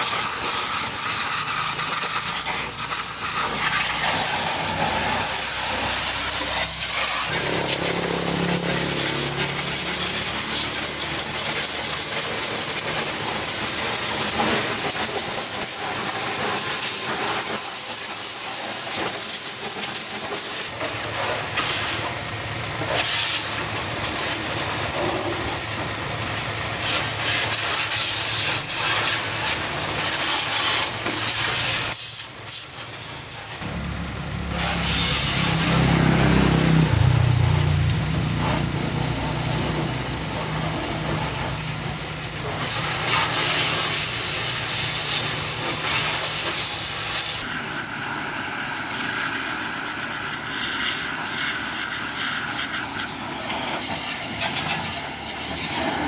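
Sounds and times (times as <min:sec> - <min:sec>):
loud hissing noise: 0:00.0 - 0:56.0.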